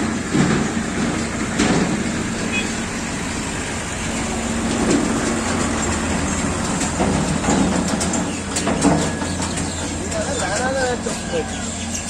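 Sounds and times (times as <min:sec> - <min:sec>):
knocks and clanks: 0:00.0 - 0:03.3, 0:04.0 - 0:12.0
diesel engines running: 0:00.0 - 0:12.0.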